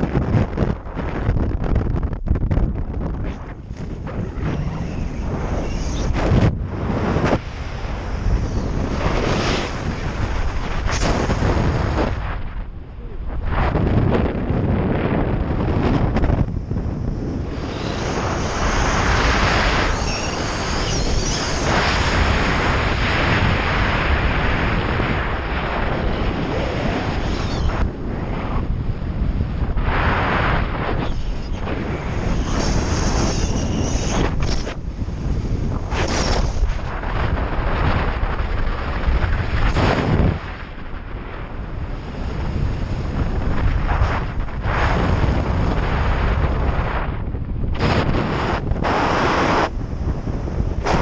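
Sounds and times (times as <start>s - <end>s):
loud wind on microphone: 0.0s - 51.0s.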